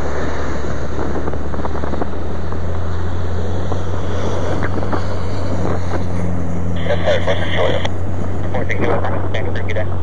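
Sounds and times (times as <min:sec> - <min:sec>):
plane engine and propeller drone: 0:00.0 - 0:10.0.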